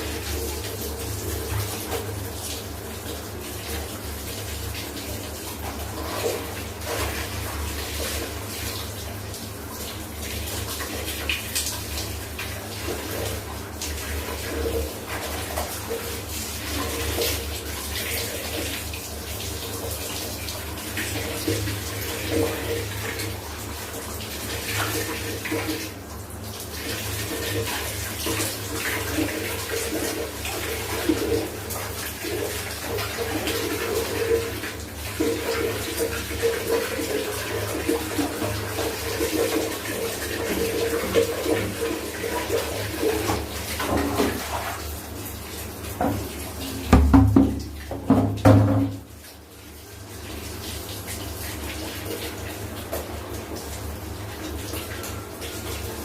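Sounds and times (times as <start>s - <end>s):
water splashing and pouring: 0.0s - 56.0s.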